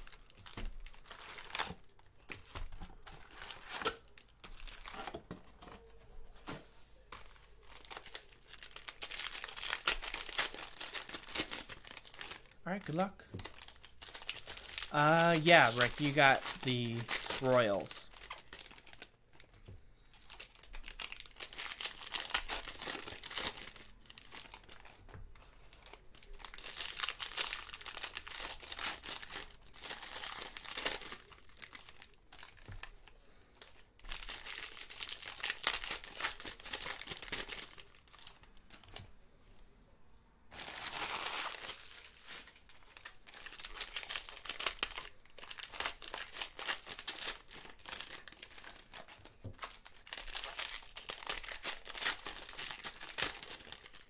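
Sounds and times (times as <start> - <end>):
foil wrappers crinkling and tearing: 7.2 - 25.0, 25.7 - 39.0, 40.5 - 54.0.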